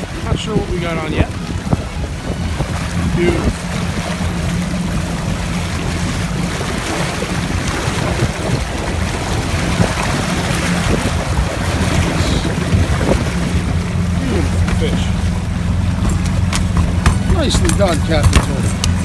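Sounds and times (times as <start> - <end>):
boat engine humming: 0.0 - 19.0
water washing around hull: 0.0 - 19.0
wind buffeting microphone: 0.0 - 19.0.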